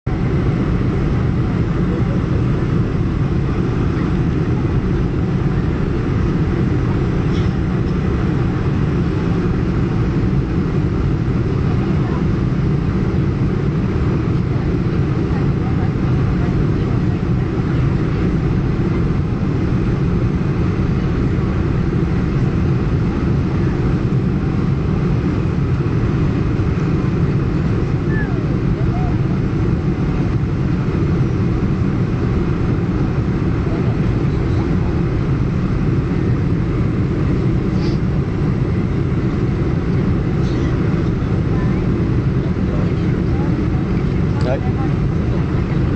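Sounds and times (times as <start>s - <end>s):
aircraft cabin engine rumble: 0.0s - 45.9s
rushing airflow: 0.1s - 45.9s.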